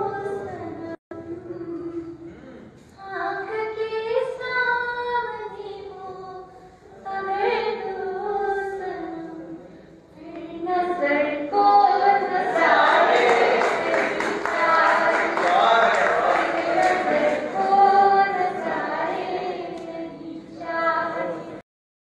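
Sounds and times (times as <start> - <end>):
woman singing: 0.0 - 2.4, 3.0 - 13.0, 13.6 - 15.4, 16.4 - 21.6.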